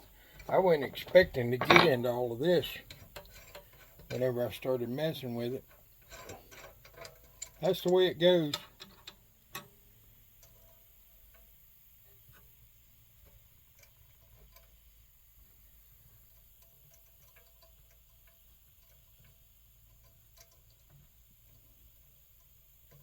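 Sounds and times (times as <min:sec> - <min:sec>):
metal stove parts clicking: 0:00.3 - 0:11.6, 0:12.3 - 0:15.1, 0:15.8 - 0:23.0.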